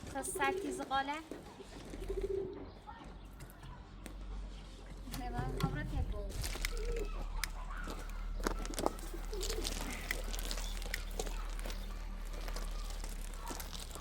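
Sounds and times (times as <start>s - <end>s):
birds calling and cooing: 0.0s - 14.0s.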